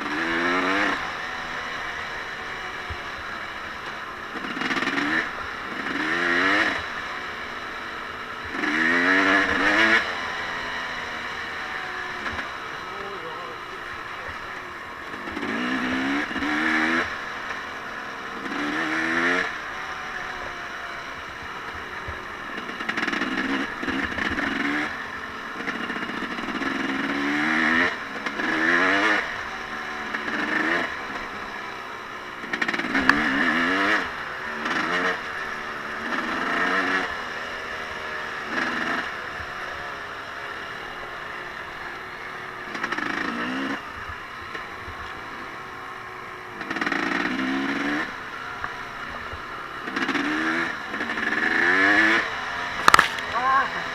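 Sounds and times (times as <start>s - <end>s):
off-road vehicle engine revving: 0.0s - 53.9s.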